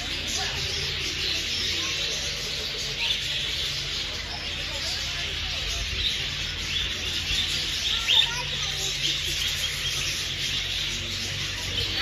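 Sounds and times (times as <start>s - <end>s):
budgerigars chattering and chirping: 0.0s - 12.0s.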